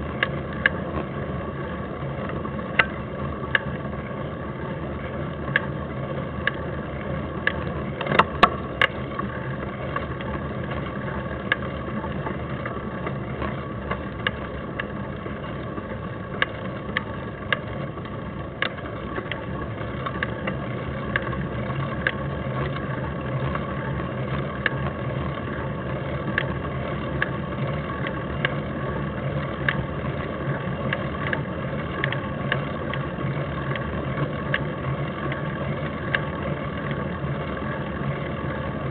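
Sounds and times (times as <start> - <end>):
bicycle clicks and rattles: 0.0 - 38.9
bicycle riding noise: 0.0 - 38.9.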